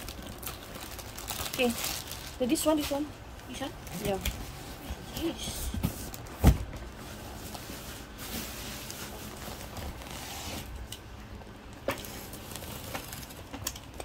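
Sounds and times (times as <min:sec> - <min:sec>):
packaging rustling: 0:00.0 - 0:10.9, 0:11.7 - 0:14.0.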